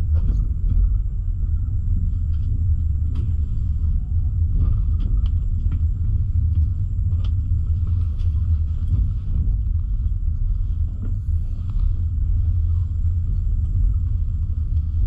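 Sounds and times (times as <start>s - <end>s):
train coach rumbling on rails: 0.0s - 15.0s.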